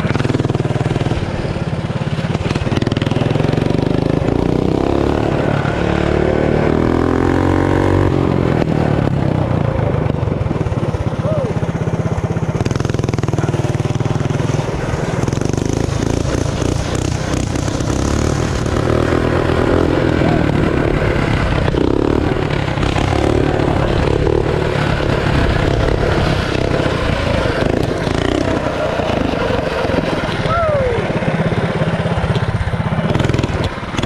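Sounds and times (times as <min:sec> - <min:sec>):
minibike engine running: 0:00.0 - 0:34.0.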